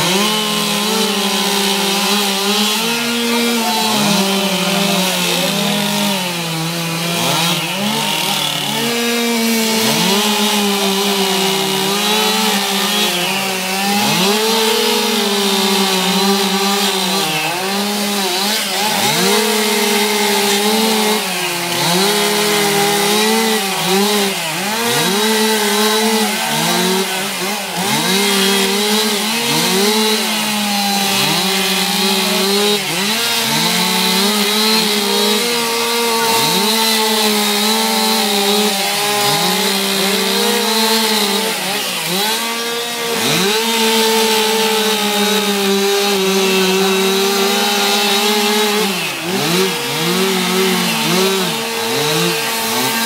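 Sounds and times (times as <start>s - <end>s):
chainsaws revving and cutting wood: 0.0s - 53.0s.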